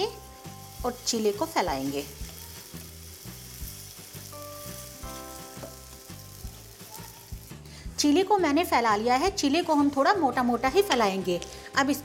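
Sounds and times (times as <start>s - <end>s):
batter sizzling in a pan: 0.0s - 12.0s
faint background music: 0.0s - 12.0s.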